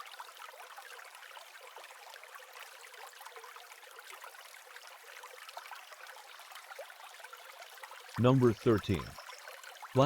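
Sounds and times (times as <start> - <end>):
water trickling: 0.0 - 10.0.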